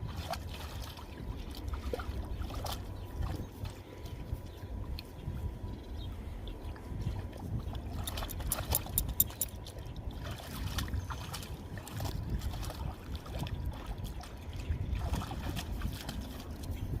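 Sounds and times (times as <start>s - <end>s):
steady low rumble: 0.0s - 17.0s
water splashing and sloshing: 0.0s - 17.0s.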